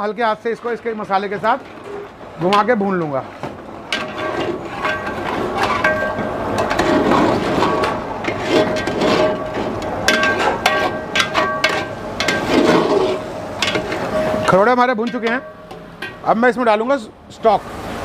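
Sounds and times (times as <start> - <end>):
ladle stirring and scraping pot: 1.1 - 16.3.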